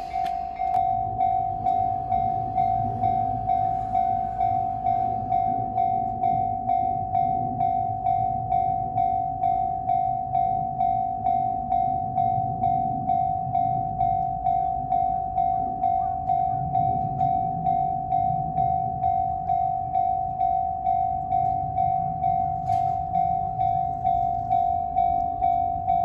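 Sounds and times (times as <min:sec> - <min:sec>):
low rumble: 0:00.0 - 0:26.0
railroad crossing bell ringing: 0:00.0 - 0:26.0.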